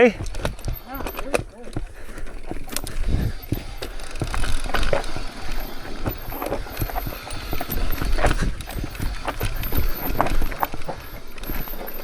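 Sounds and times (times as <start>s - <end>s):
bike rattling over rocks: 0.0s - 12.0s.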